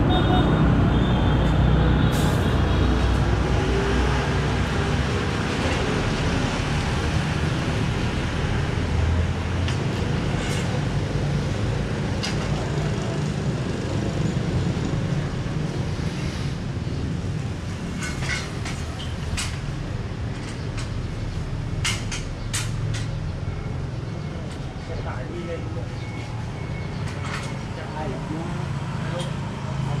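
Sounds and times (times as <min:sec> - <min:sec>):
passing road traffic rumbling: 0:00.0 - 0:30.0.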